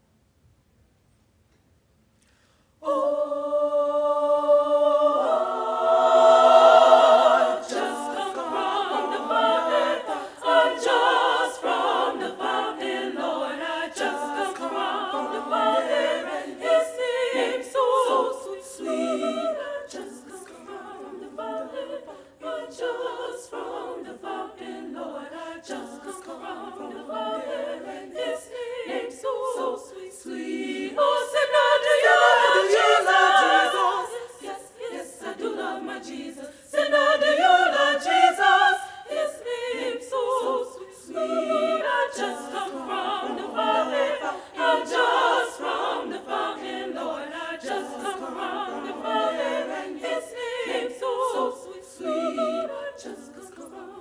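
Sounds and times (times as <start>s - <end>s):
women's choir singing a cappella: 2.8s - 54.0s.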